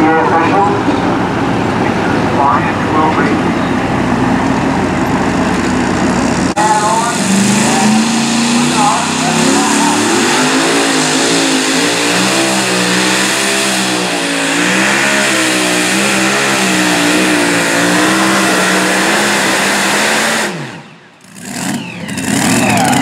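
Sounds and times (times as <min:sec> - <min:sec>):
truck engine running flat out: 0:00.0 - 0:23.0.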